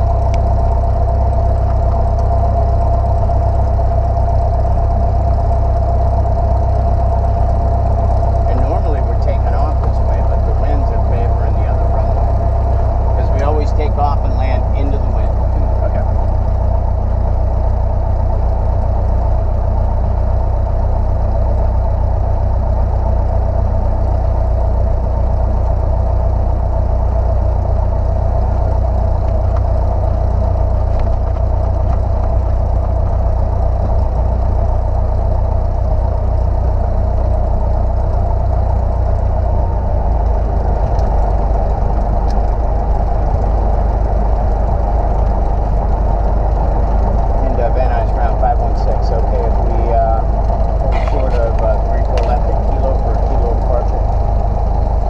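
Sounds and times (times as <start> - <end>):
light airplane engine running: 0.0 - 55.0.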